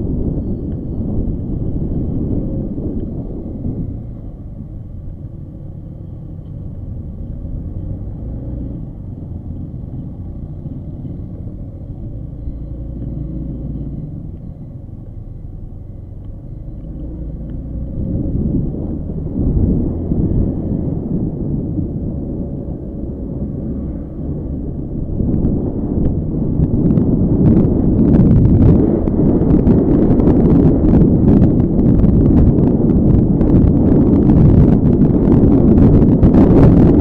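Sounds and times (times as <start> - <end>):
vehicle engine rumbling: 0.0 - 37.0
wind buffeting microphone: 0.0 - 37.0.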